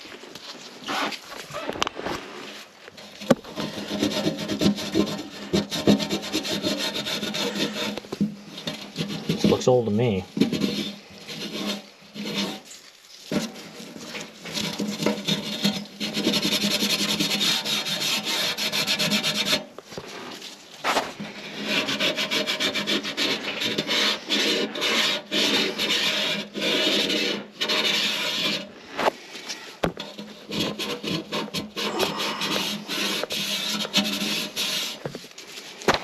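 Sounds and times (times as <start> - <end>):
hard fast scraping: 0.0 - 36.0.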